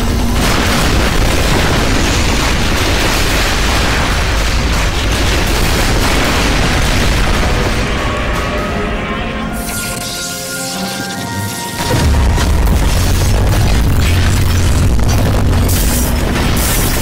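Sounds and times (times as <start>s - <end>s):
sustained explosive rush: 0.0s - 17.0s.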